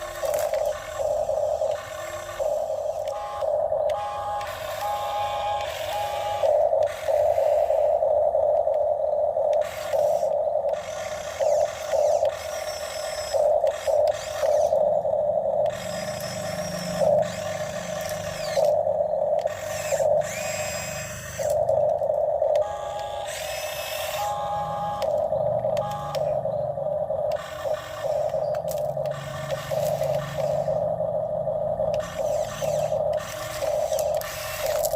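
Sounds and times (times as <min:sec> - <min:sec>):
electric motors whining: 0:00.0 - 0:34.9.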